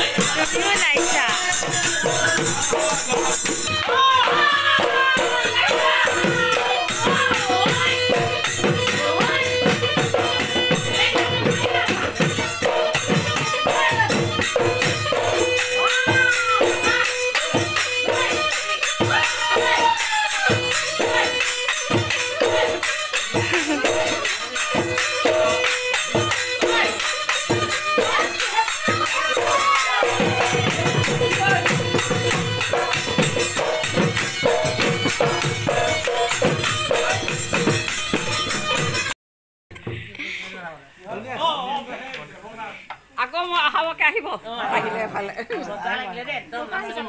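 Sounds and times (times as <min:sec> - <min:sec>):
barrel drum beating: 0:00.0 - 0:39.1
hand cymbals jingling: 0:00.0 - 0:39.1.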